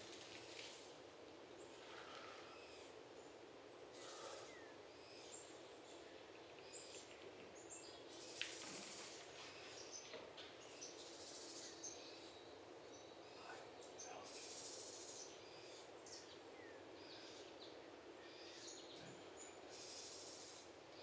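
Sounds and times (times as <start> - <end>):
background hiss: 0.0 - 21.0
faint birdsong: 0.0 - 21.0.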